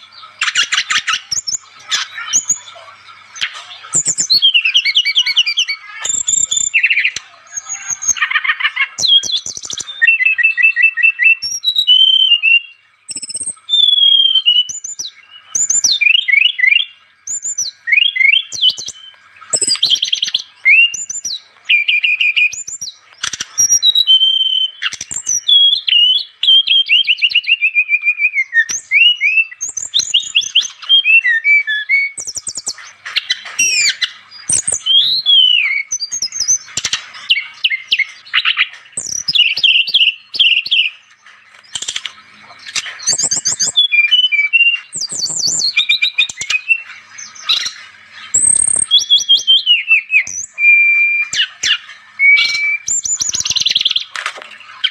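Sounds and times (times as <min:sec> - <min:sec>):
songbird chirping and trilling: 0:00.0 - 0:54.9.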